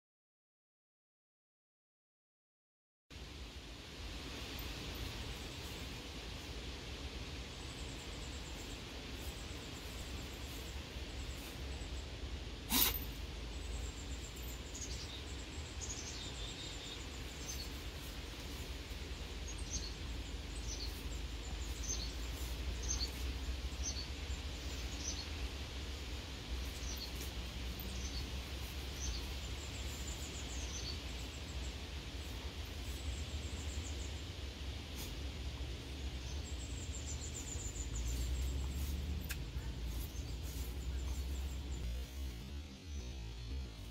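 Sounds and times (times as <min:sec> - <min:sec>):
low background noise: 0:03.1 - 0:43.9
small birds chirping: 0:03.7 - 0:43.9.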